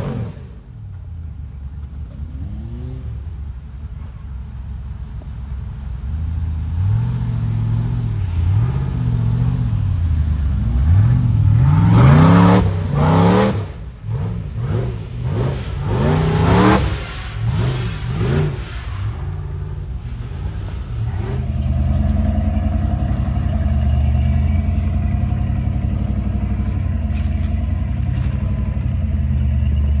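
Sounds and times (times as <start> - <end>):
truck engine revving: 0.0 - 4.1, 5.8 - 30.0.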